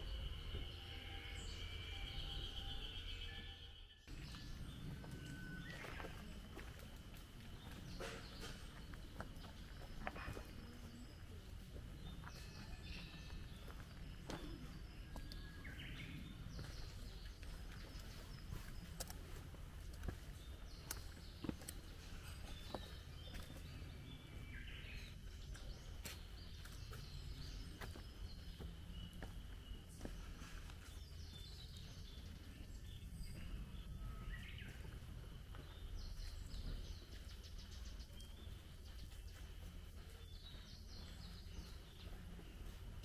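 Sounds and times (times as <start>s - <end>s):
birds calling: 0.0s - 43.0s
footsteps on stone path: 4.1s - 43.0s
low outdoor rumble: 4.1s - 43.0s.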